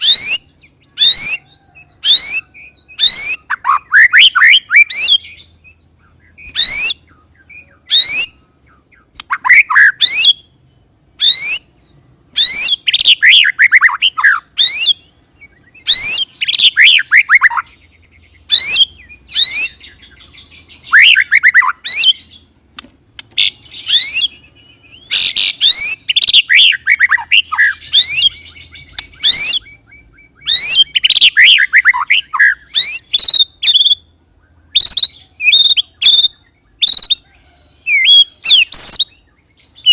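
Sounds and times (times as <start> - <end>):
bird singing whistled notes: 0.0 - 22.5, 23.1 - 39.9.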